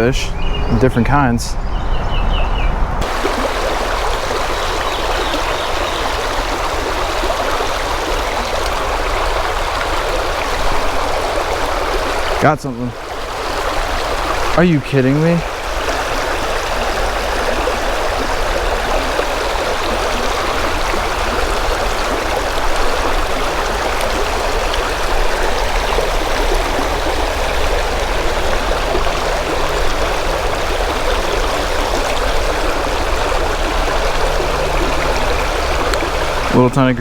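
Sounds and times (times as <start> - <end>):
creek water rushing: 3.0 - 37.0.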